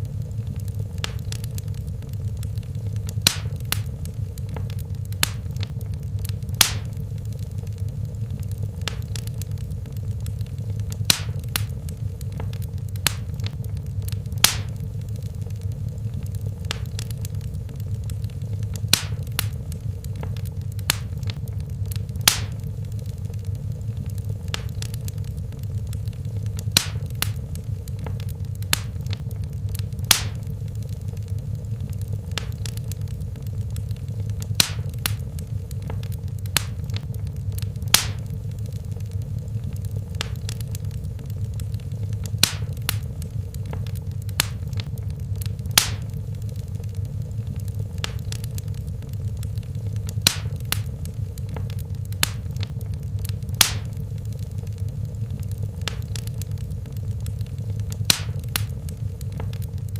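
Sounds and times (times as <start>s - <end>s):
fire pops and snaps: 0.0s - 59.9s
low rumble of flames: 0.0s - 59.9s.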